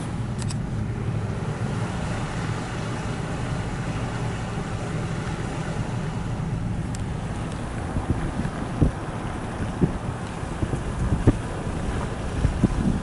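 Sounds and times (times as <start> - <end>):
car engine and tyres on wet road: 0.0 - 13.0.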